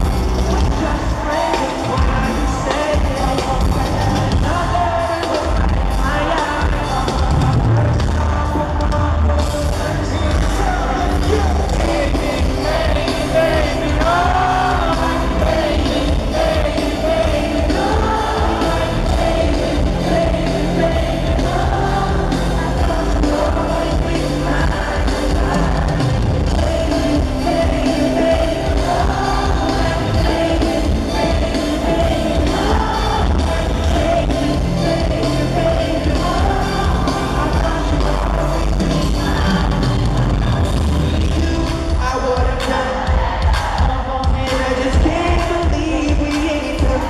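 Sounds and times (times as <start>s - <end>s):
man singing: 0.0s - 40.4s, 41.0s - 47.0s.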